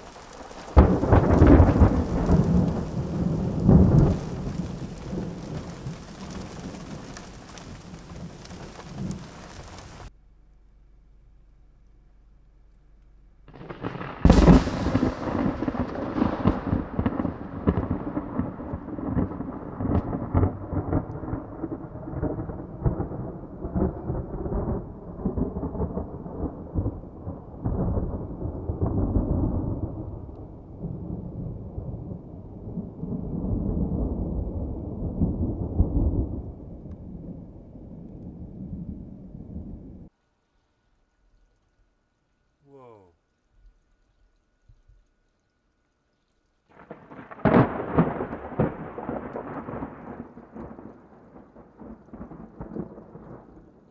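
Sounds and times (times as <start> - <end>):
thunder crack and rumble: 0.0 - 10.1, 13.5 - 40.1, 46.7 - 53.9.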